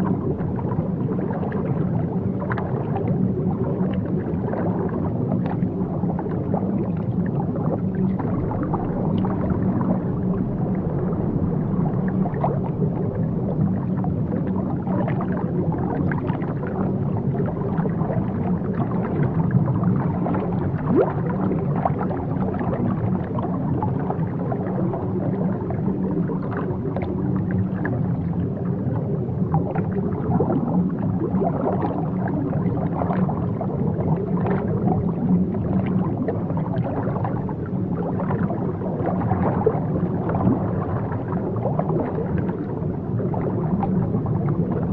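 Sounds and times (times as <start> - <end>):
aquarium water bubbling: 0.0 - 44.9
low pump hum: 0.0 - 44.9.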